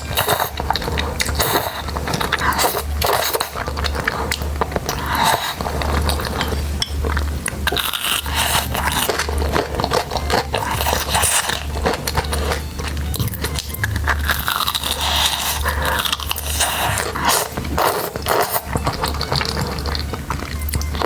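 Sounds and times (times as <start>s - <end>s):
food crunching and chewing: 0.0s - 21.0s.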